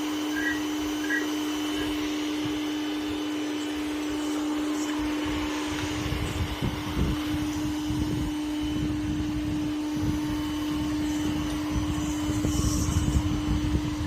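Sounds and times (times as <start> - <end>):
robot vacuum motor hum: 0.0 - 14.0.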